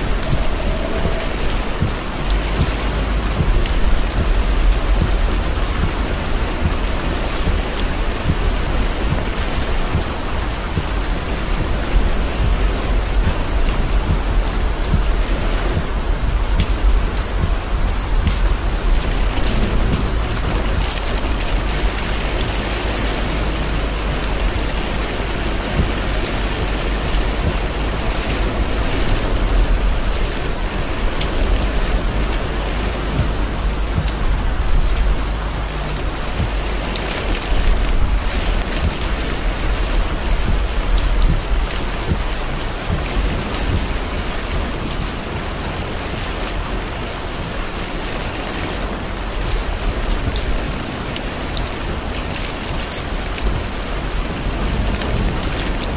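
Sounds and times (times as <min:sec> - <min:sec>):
heavy rain on car roof: 0:00.0 - 0:55.9
low rumble: 0:00.0 - 0:55.9.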